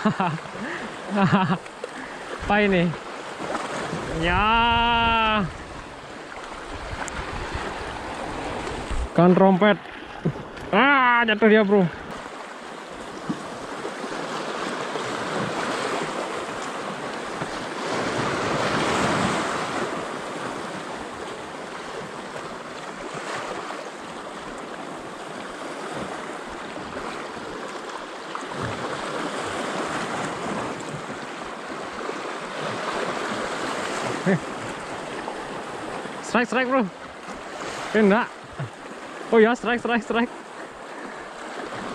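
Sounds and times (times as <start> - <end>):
sea waves on rocky shore: 0.0 - 41.9.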